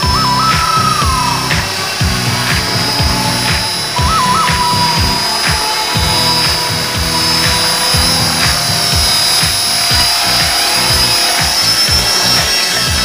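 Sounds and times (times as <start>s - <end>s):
low rumbling thumps: 0.0s - 13.0s
pop music: 0.0s - 13.0s
toy helicopter whining: 0.0s - 13.0s.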